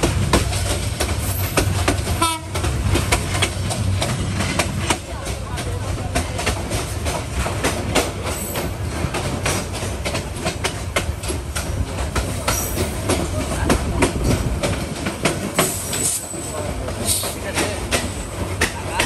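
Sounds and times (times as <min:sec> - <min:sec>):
train rumble: 0:00.0 - 0:19.0
wheels clicking over rail joints: 0:00.0 - 0:19.0.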